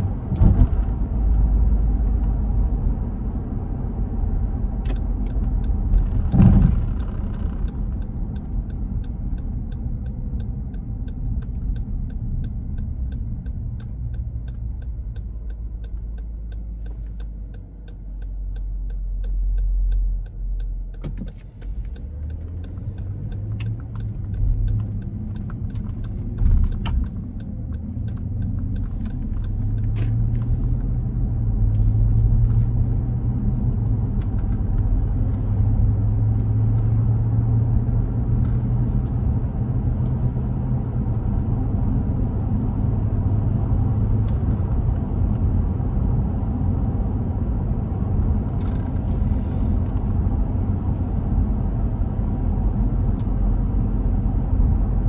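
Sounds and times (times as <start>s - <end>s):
car engine and tyre rumble: 0.0s - 55.0s
turn signal ticking: 3.5s - 55.0s.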